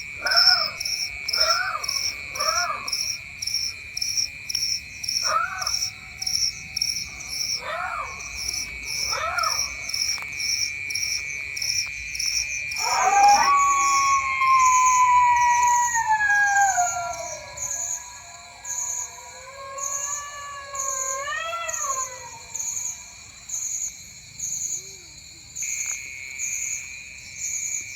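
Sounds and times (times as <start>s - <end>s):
crickets and insects trilling: 0.0s - 27.9s.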